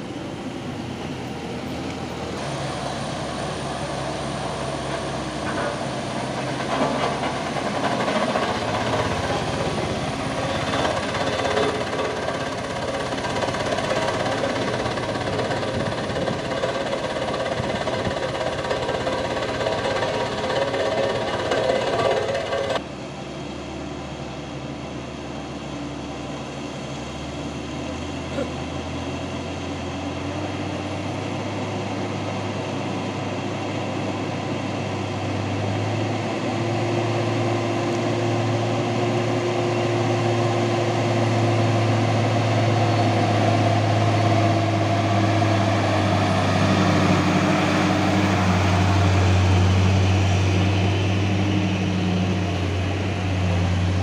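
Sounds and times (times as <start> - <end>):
dump truck diesel engine passing: 0.0 - 22.8, 25.4 - 54.0
road roller engine running: 0.0 - 54.0.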